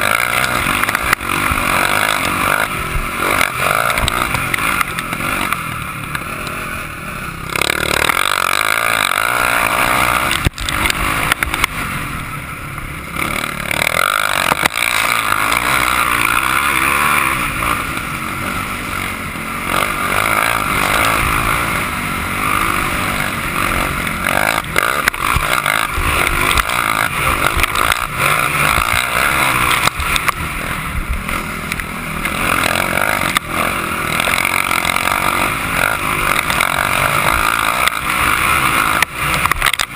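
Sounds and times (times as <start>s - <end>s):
motocross motorcycle engine revving: 0.0s - 39.9s.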